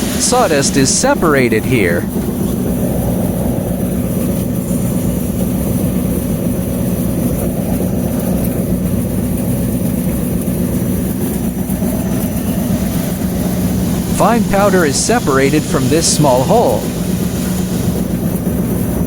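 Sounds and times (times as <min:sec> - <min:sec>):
machine humming: 0:00.0 - 0:18.8.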